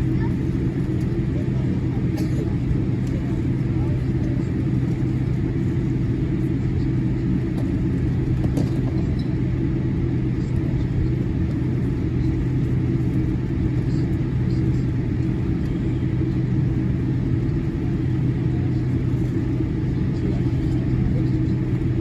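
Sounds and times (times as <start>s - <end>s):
airplane cabin rumble: 0.0s - 22.0s
engines idling hum: 0.0s - 22.0s.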